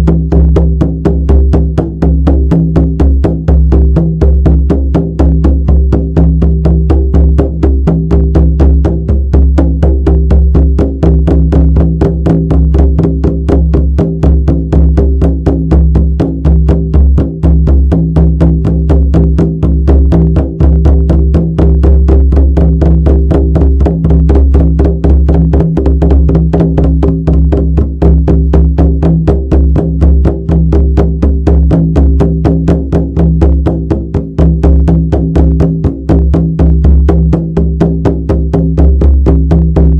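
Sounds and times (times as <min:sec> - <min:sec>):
frame drum beaten fast: 0:00.0 - 0:39.9.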